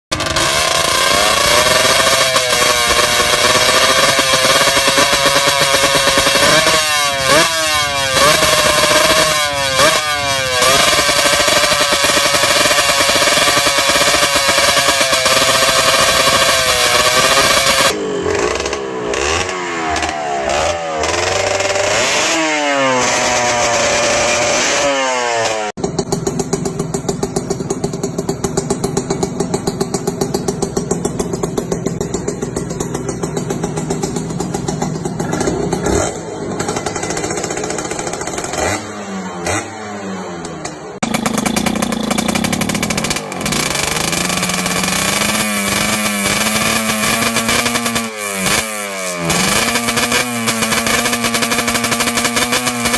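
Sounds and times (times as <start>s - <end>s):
motorcycle engine revving: 0.1s - 52.9s.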